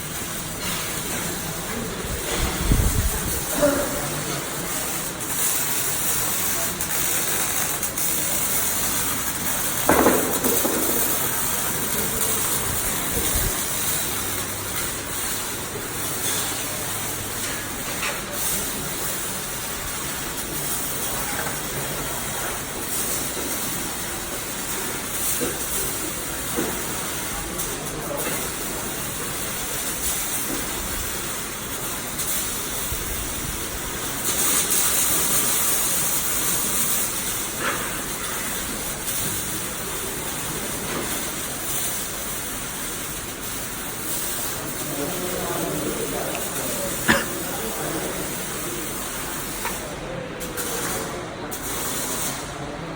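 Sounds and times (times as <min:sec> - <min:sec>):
arc welding crackle: 0:00.0 - 0:52.9.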